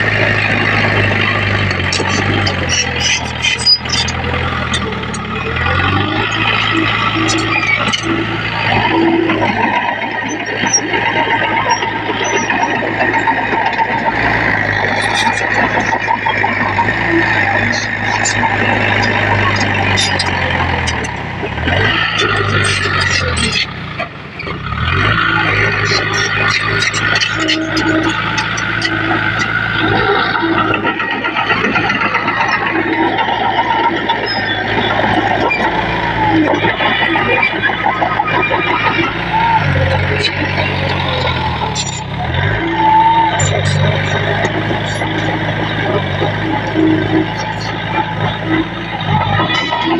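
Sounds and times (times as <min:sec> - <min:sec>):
heavy machinery diesel engines: 0:00.0 - 0:49.9.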